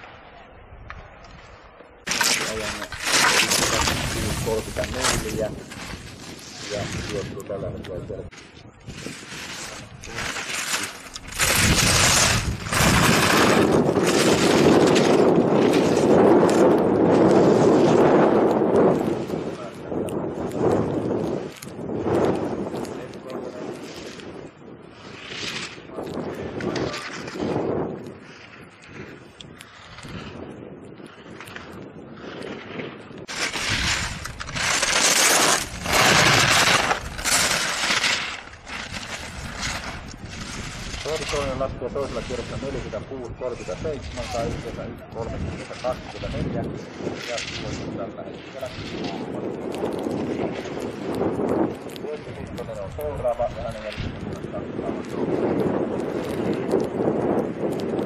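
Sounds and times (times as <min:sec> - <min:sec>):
skis scraping on hard snow: 0:02.0 - 0:58.0.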